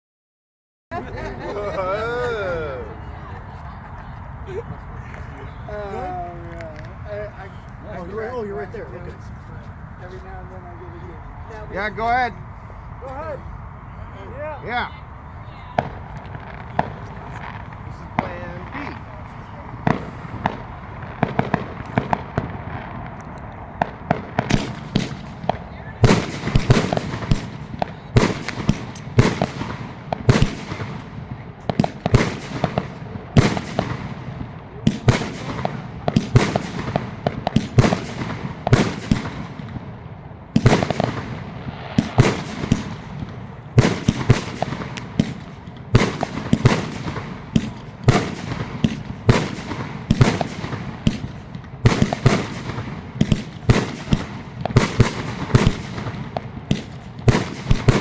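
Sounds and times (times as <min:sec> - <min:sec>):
fireworks bangs and crackling: 0:00.9 - 0:58.0.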